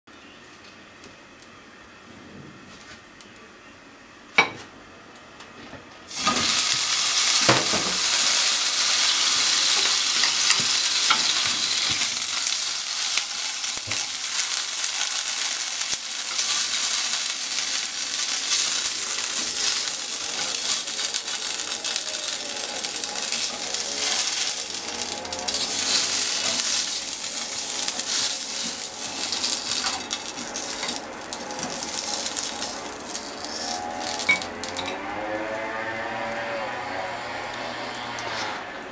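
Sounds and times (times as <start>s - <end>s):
sausages sizzling in frying pan: 6.1s - 38.3s.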